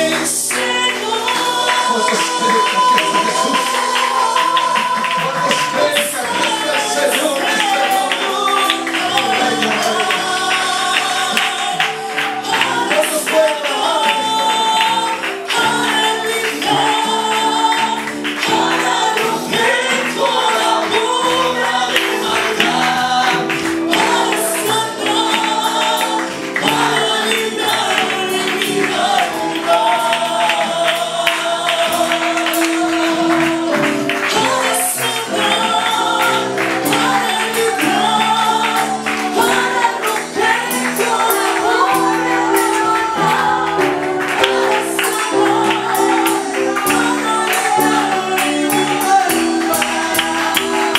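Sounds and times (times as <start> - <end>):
congregation singing: 0.0 - 50.9
instrumental accompaniment: 0.0 - 50.9.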